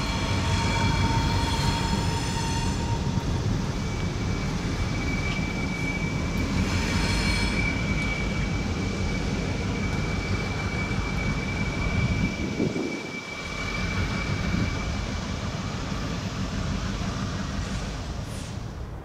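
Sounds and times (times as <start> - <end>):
wheel flanges squealing: 0.0 - 15.4
diesel locomotives rumbling: 0.0 - 19.0.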